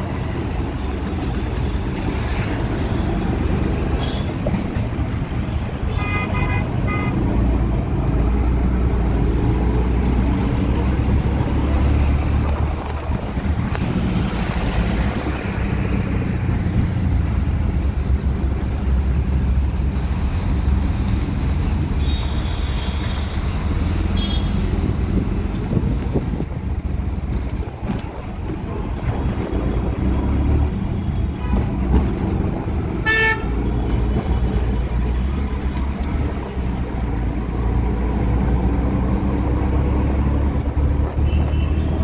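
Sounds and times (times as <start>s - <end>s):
wind and road noise: 0.0s - 42.0s.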